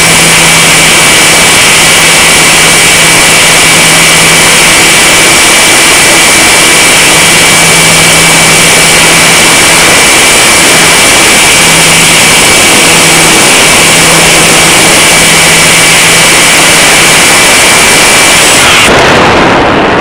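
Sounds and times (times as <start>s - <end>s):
low hum: 0.0s - 20.0s
thin high whine: 0.0s - 20.0s
wind rushing over microphone: 0.0s - 20.0s.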